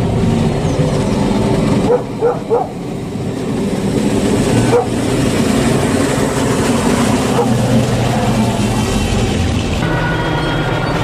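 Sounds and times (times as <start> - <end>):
tractor engine running: 0.0 - 11.0
tyres rolling on road: 0.0 - 11.0.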